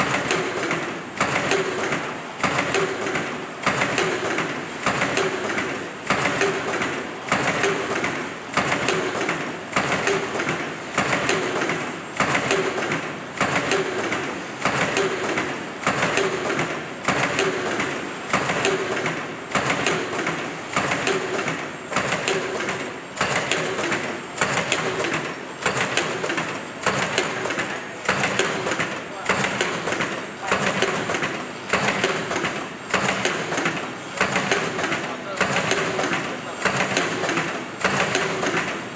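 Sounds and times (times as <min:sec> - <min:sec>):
machine clattering: 0:00.0 - 0:38.9.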